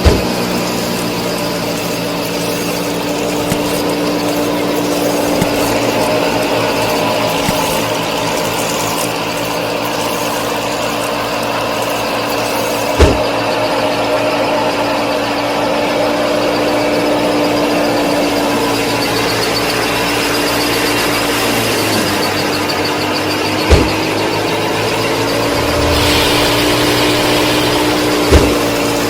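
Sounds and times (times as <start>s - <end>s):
small motor droning: 0.0s - 29.0s.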